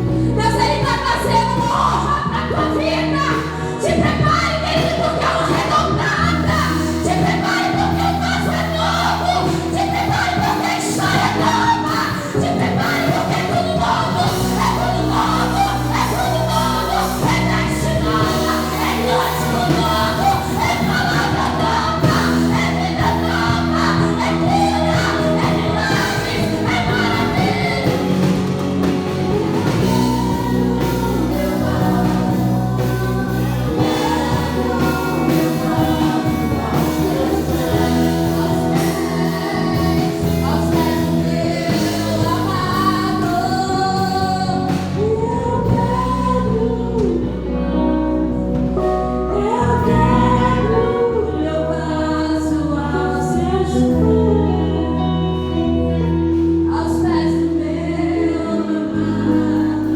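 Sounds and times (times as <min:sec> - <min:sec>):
voices singing together: 0:00.0 - 0:48.6, 0:49.3 - 0:59.9
keyboard chords: 0:00.0 - 0:59.9.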